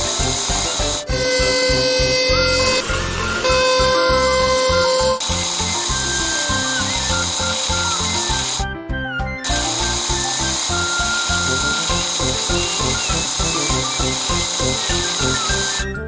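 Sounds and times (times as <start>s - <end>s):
power tool whirring: 0.0s - 8.7s, 9.4s - 16.0s
background music with beat: 0.0s - 16.0s.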